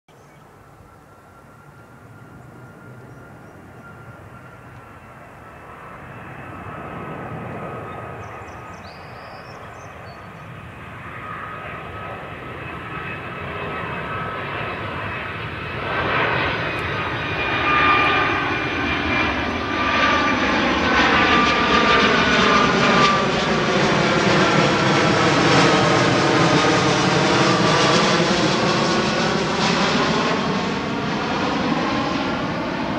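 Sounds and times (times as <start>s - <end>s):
plane engines passing overhead: 0.1s - 32.9s.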